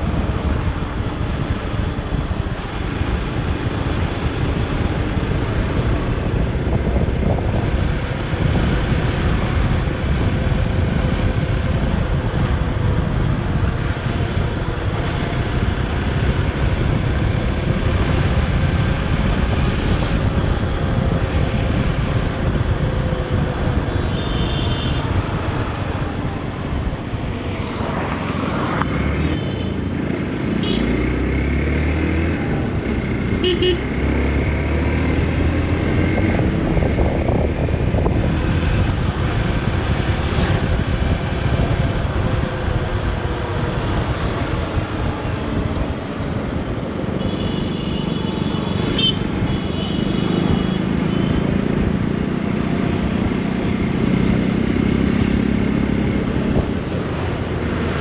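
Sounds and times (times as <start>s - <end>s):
wind rush on microphone: 0.0s - 58.0s.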